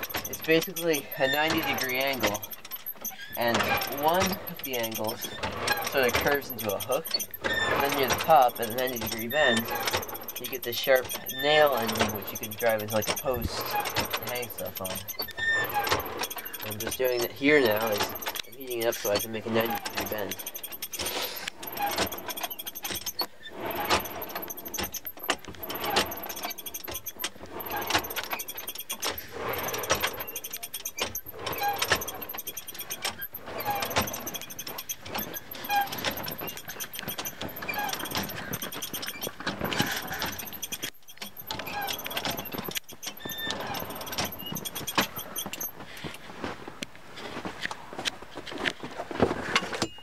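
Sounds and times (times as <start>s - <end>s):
forge blower fan whirring: 0.0s - 45.6s
metallic clinks and coal crackles: 0.0s - 46.1s.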